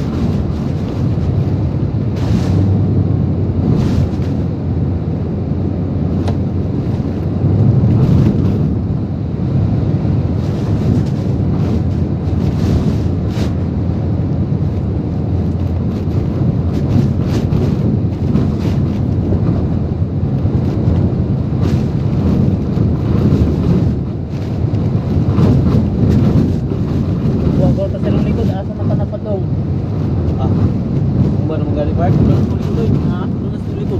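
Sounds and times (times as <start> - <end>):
driving rain on truck: 0.0 - 33.9
strong wind gusting: 0.0 - 33.9.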